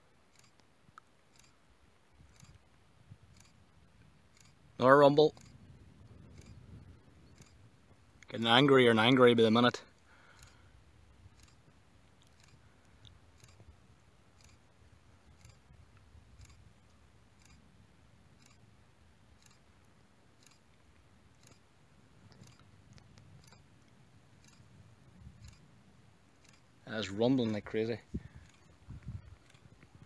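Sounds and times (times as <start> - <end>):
faint ticks: 0.2 - 30.0.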